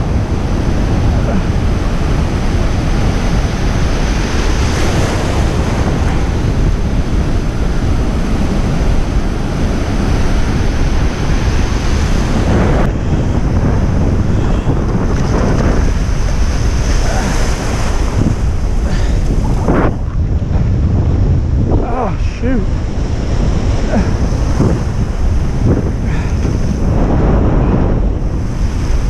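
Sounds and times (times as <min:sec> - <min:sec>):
surf washing over rocks: 0:00.0 - 0:29.0
wind buffeting microphone: 0:00.0 - 0:29.0.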